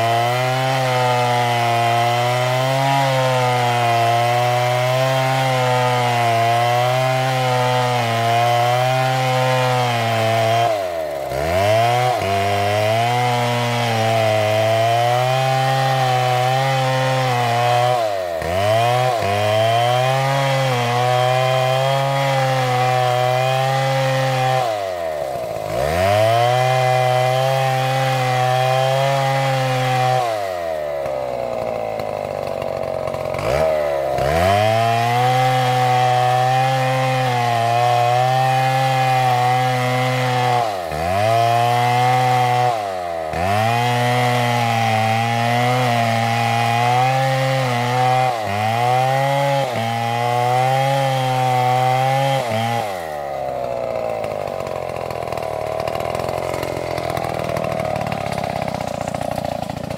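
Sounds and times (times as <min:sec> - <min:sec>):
chainsaw cutting tree trunk: 0:00.0 - 0:59.9.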